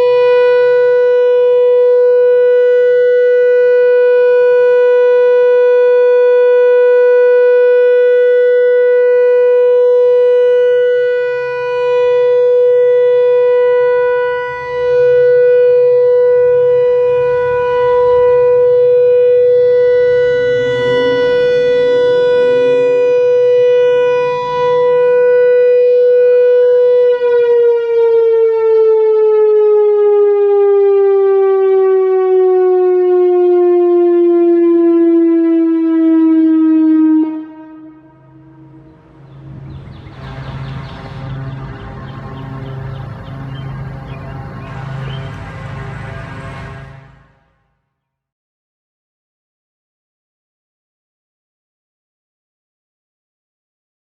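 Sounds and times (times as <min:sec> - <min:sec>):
outdoor warning siren: 0:00.0 - 0:48.0.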